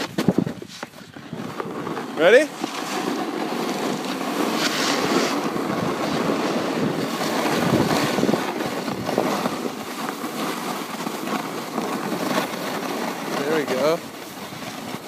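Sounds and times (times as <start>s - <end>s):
snowboard scraping over snow: 0.0s - 15.0s
wind on microphone: 0.0s - 15.0s.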